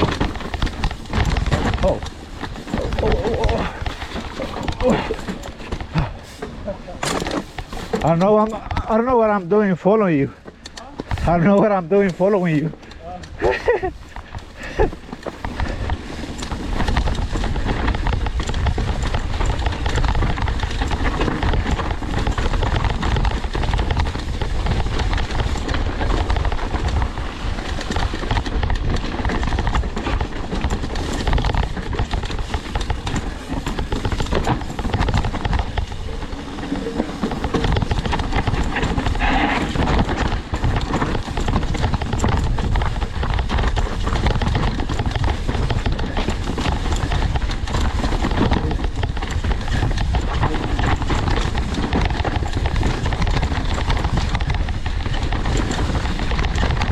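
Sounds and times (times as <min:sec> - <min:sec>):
wind rushing over microphone: 0:00.0 - 0:06.2, 0:13.4 - 0:56.9
bike clattering over rocks: 0:00.0 - 0:56.9.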